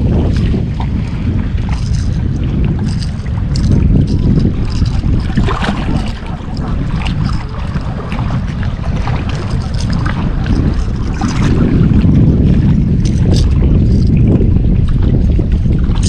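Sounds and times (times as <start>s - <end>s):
small waves lapping on rocks: 0.0s - 16.0s
wind buffeting microphone: 0.0s - 16.0s.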